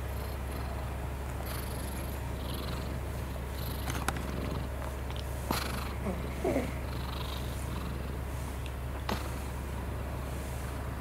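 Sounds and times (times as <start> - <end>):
cat purring: 0.0 - 10.8.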